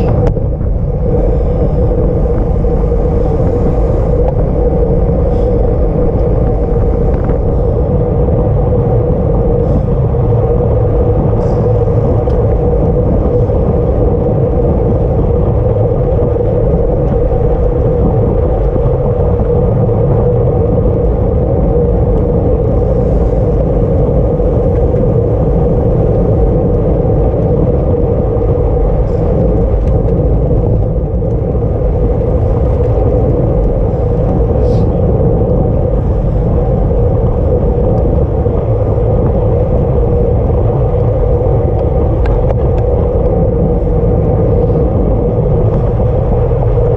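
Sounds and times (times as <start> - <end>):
constant hum: 0.0 - 46.9
wind buffeting microphone: 0.0 - 46.9.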